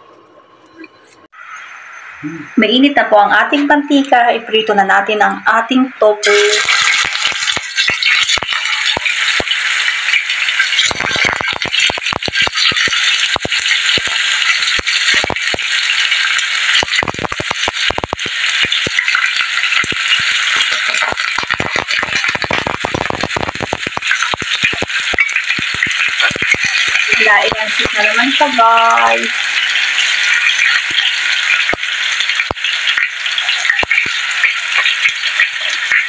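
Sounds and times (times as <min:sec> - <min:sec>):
tofu sizzling in hot oil: 0:06.2 - 0:36.0.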